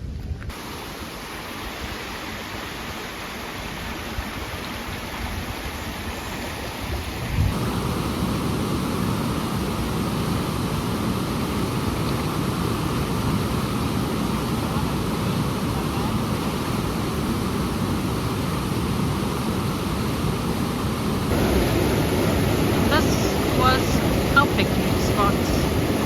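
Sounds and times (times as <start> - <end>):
waterfall rushing: 0.5 - 26.0.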